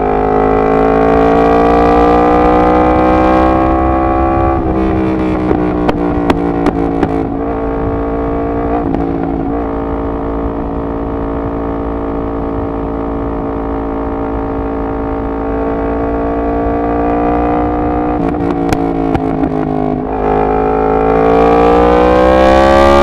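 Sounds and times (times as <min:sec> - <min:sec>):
motorcycle engine under throttle: 0:00.0 - 0:23.0.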